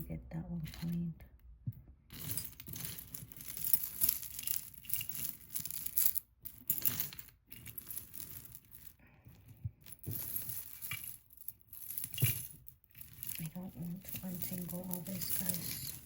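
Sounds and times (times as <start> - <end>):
metal jewelry jingling: 2.1 - 9.0, 9.8 - 16.0.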